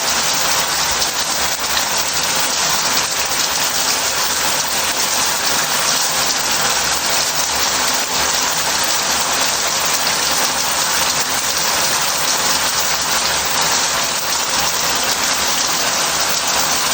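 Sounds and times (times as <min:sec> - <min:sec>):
shower water spraying into bath: 0:00.0 - 0:16.9.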